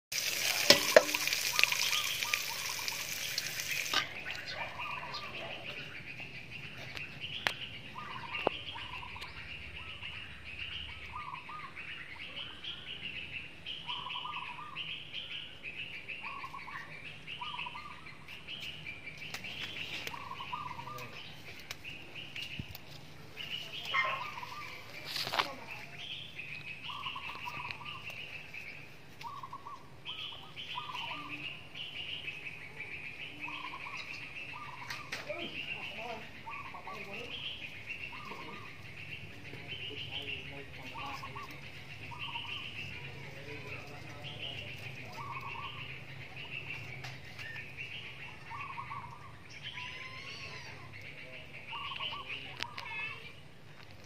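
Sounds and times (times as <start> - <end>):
birds chirping: 0.1 - 54.0.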